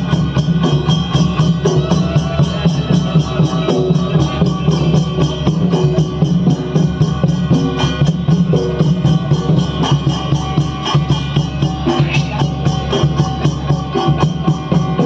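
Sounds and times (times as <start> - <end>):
fast drum rhythm: 0.0 - 15.0.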